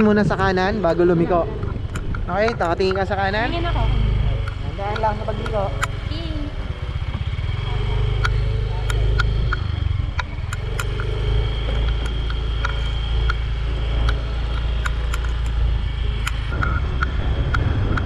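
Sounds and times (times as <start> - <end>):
scooter engine rumble: 0.0 - 18.0.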